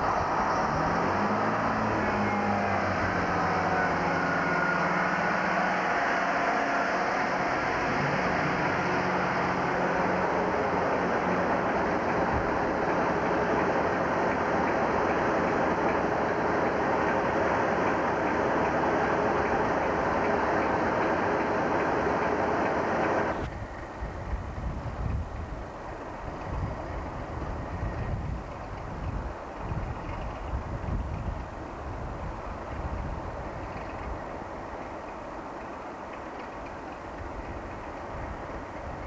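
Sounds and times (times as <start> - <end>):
diesel train engines: 0.0 - 39.0
train wheel and rail rush: 0.0 - 39.0.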